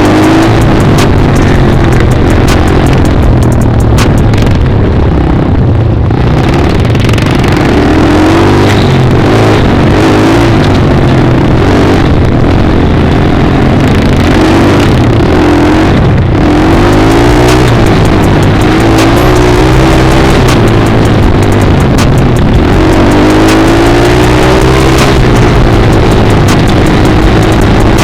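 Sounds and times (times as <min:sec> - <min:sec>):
dirt bike engine revving: 0:00.0 - 0:28.0
loud steady rush of noise: 0:00.0 - 0:28.0.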